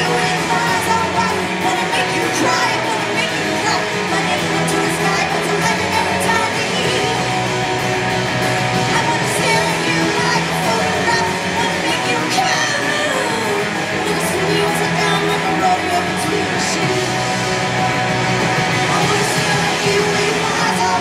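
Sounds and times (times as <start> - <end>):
electric guitars: 0.0 - 21.0
person singing: 0.0 - 21.0.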